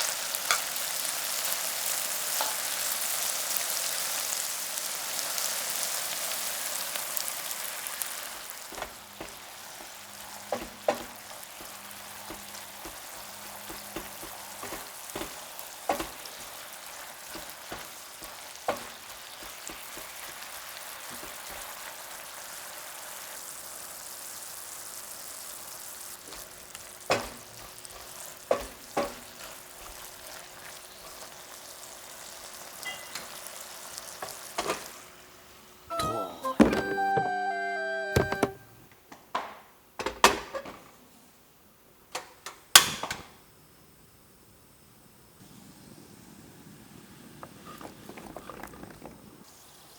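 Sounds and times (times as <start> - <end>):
food sizzling in a frying pan: 0.0 - 35.8, 45.3 - 49.9.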